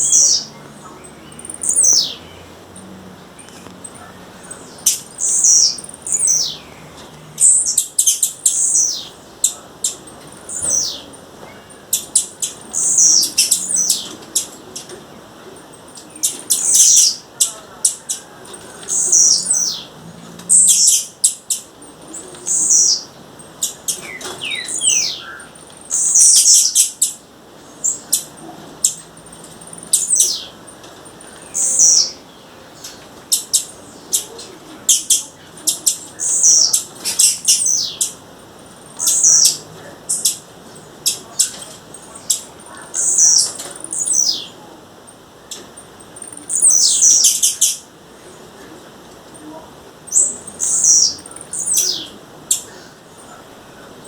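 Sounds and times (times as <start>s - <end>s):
bird high downward notes: 0.0s - 15.0s, 15.7s - 44.6s.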